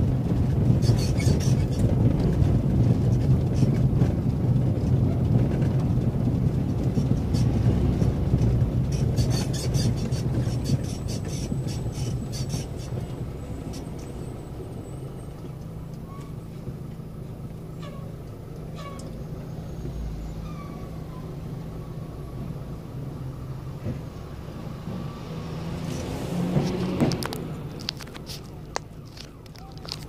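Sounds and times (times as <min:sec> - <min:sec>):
vehicle engine drone: 0:00.0 - 0:30.0.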